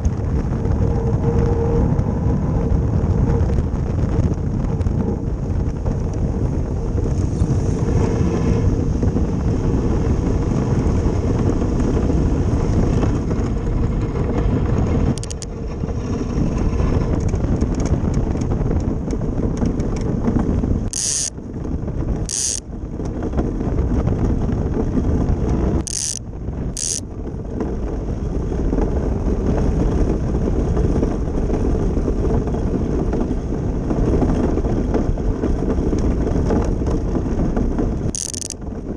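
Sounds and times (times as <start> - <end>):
runners rumbling over ice: 0.0 - 38.9
wind on microphone: 0.0 - 38.9.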